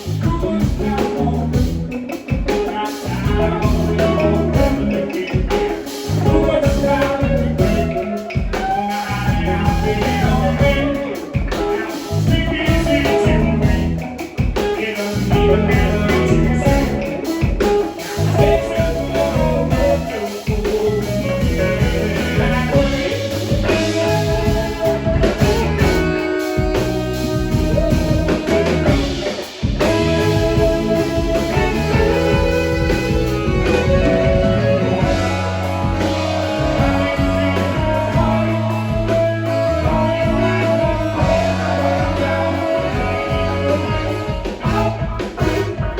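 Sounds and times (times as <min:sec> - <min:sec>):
bass: 0:00.0 - 0:45.9
drum kit: 0:00.0 - 0:45.9
electric guitar: 0:00.0 - 0:45.9.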